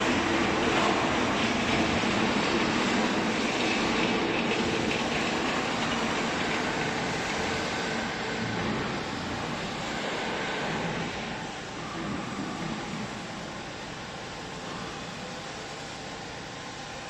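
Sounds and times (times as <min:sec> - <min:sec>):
hydraulic baler mechanical drone: 0:00.0 - 0:17.0.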